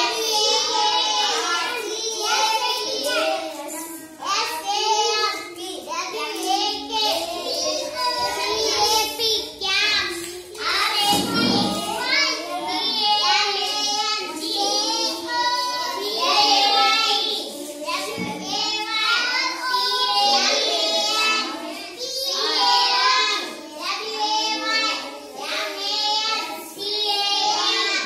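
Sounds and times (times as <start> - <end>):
children singing together: 0.0 - 28.0.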